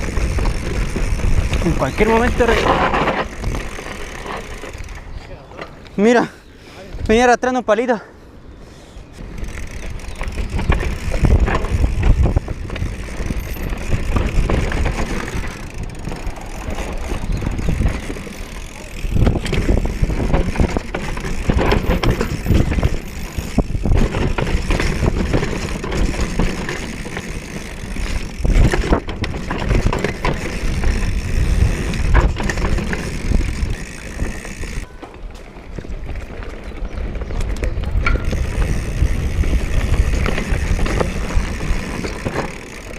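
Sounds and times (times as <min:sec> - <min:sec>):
bike tyre rumble on dirt: 0:00.0 - 0:05.8, 0:09.0 - 0:42.9
bike knocking and rattling: 0:00.0 - 0:06.2, 0:09.2 - 0:42.9.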